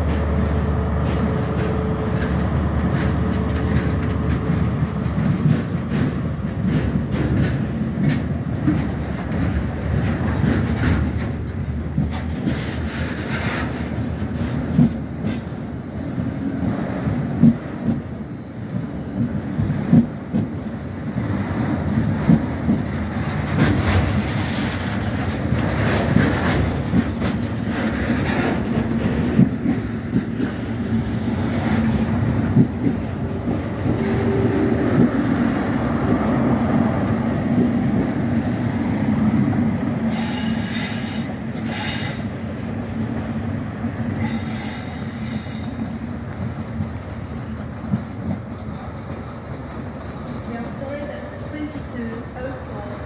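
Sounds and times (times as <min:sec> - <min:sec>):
train rumbling past: 0:00.0 - 0:53.0
train wheels clicking over rail joints: 0:00.0 - 0:53.0.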